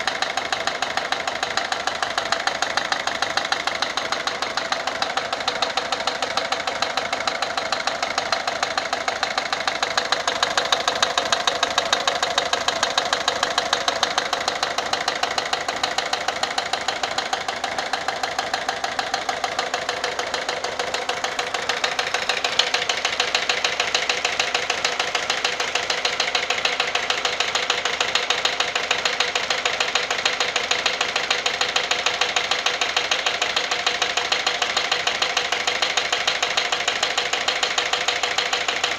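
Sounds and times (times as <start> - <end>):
diesel engine idling with ticking knock: 0.0 - 38.9.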